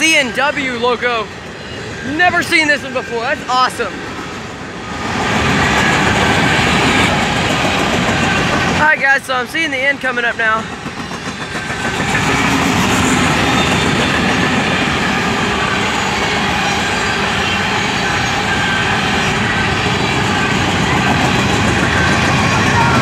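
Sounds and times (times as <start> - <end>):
train wheels rumbling on rails: 1.1 - 23.0.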